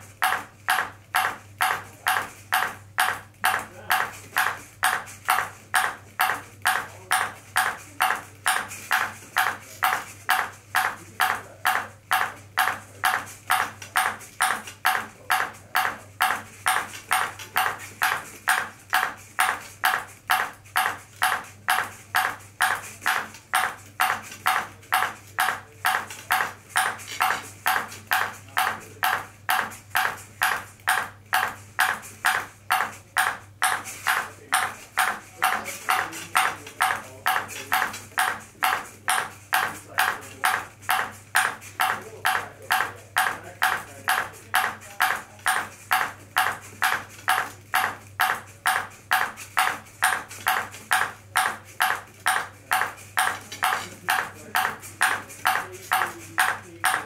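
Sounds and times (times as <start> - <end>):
ping pong ball bouncing on paddle: 0.2 - 57.0.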